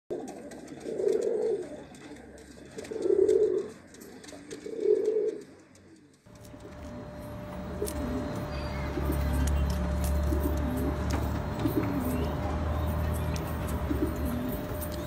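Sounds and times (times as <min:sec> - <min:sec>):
pigeon cooing: 0:00.1 - 0:15.0.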